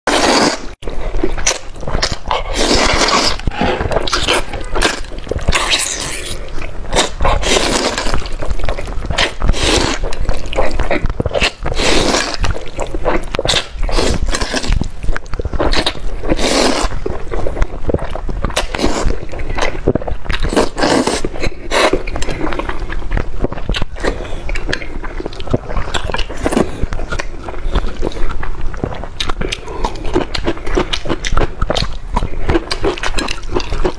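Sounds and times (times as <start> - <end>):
man slurping and chewing noodles: 0.1 - 33.9.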